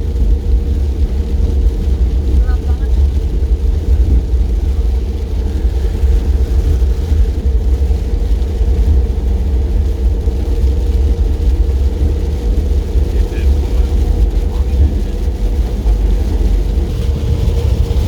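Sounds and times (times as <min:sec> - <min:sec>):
car driving with road and wind noise: 0:00.0 - 0:18.0.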